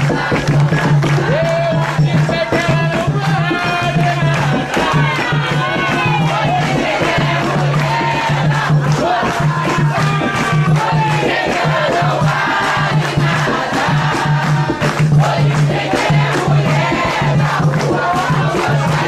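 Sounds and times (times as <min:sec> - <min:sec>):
many voices chanting: 0:00.0 - 0:19.0
ritual drumming: 0:00.0 - 0:19.0.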